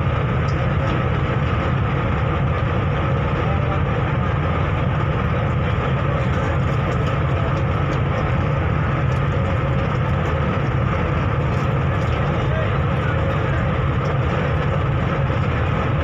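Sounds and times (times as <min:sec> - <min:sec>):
faint engine whine: 0:00.0 - 0:16.0
ferry engine droning: 0:00.0 - 0:16.0.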